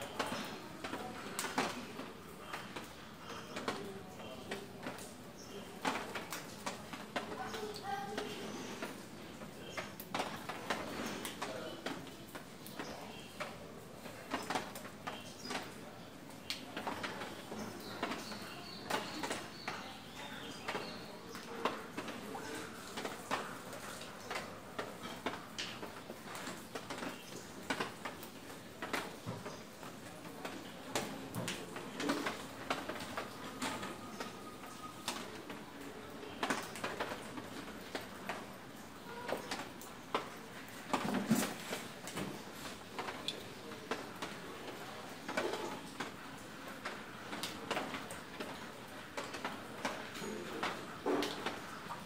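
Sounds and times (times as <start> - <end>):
low background noise: 0.0 - 52.0.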